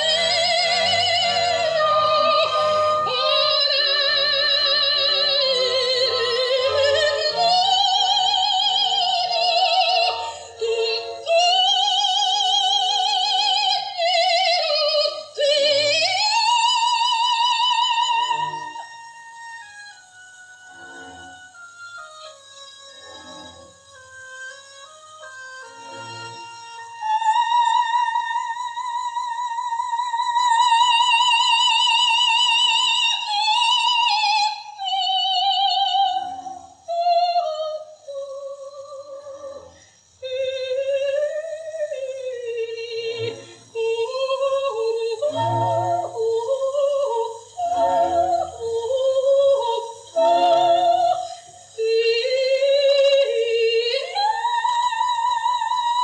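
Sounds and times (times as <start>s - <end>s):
operatic soprano singing: 0.0s - 56.0s.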